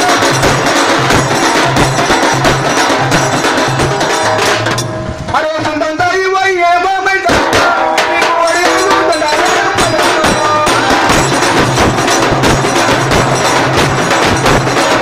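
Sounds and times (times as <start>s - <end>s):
fast drumming on barrel drum: 0.0s - 4.8s, 7.2s - 15.0s.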